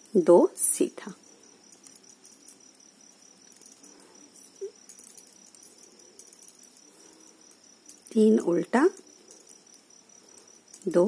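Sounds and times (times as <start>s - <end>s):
knitting needles clicking: 1.0s - 11.0s.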